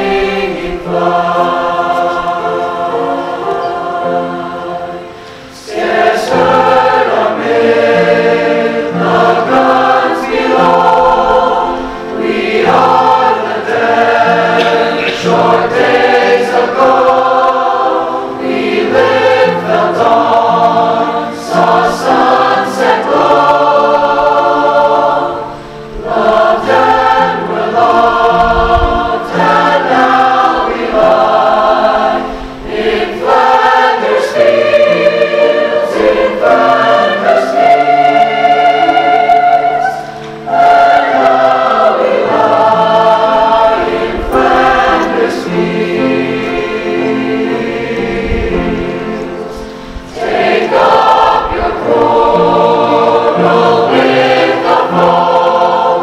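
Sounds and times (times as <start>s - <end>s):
choir singing: 0.0s - 56.0s
instrumental accompaniment: 0.0s - 56.0s.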